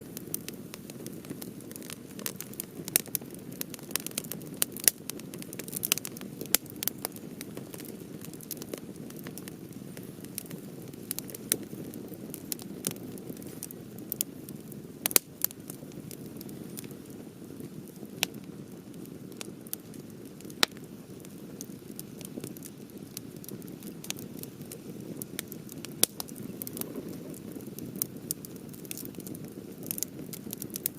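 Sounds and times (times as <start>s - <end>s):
fire crackling and popping: 0.0s - 30.9s
fire flames rushing: 0.0s - 30.9s.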